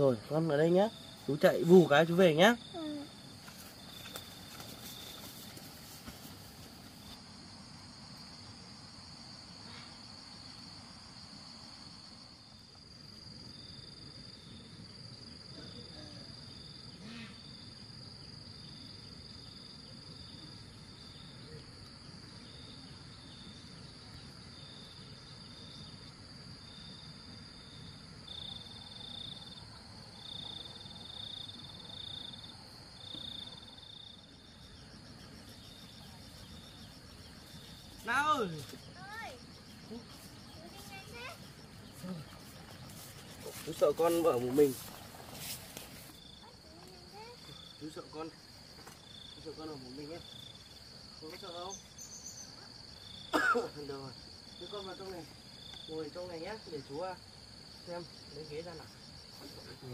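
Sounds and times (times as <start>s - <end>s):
insect high trill: 0.0s - 21.8s, 22.4s - 59.9s
insect chirping: 0.0s - 59.9s.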